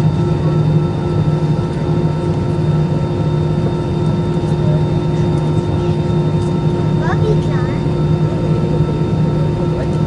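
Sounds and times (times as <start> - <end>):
jet engines idling: 0.0 - 10.0.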